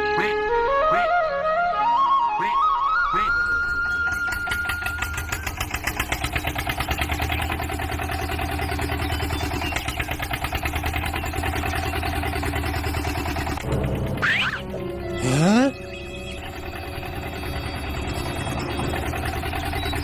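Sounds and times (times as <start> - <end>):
small engine puttering: 3.2 - 20.0.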